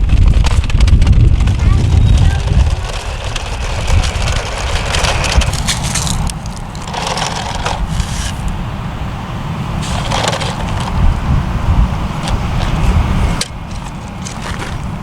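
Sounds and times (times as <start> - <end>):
gravel crunching and scraping: 0.0 - 9.0, 9.6 - 15.0
wind rumble on microphone: 0.0 - 15.0.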